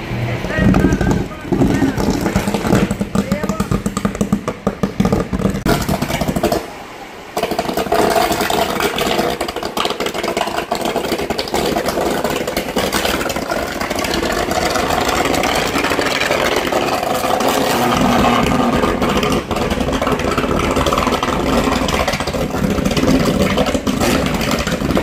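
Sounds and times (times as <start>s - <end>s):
fire crackling: 0.0s - 25.0s
fire roaring: 0.0s - 25.0s.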